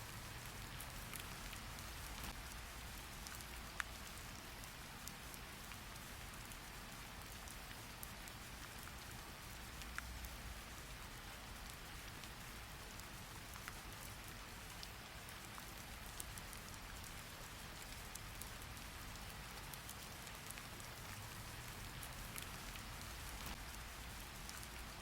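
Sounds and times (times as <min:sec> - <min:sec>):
faint steady rain: 0:00.0 - 0:25.0.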